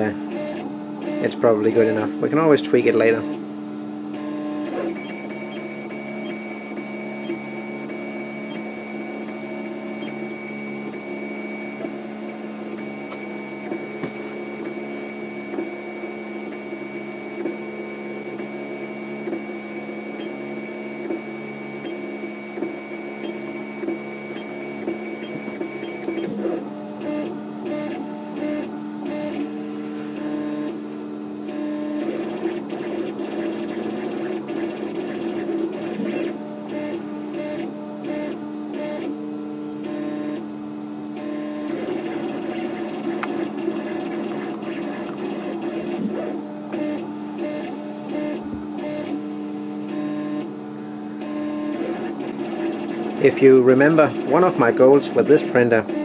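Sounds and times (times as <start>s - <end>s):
printer motors whining: 0.0s - 56.0s.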